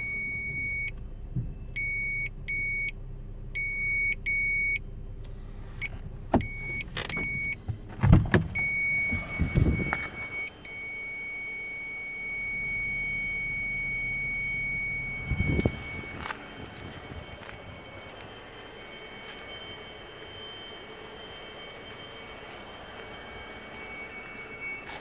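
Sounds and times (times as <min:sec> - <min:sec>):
high-pitched parking sensor beeps: 0:00.0 - 0:04.8, 0:05.8 - 0:07.7, 0:08.5 - 0:25.0.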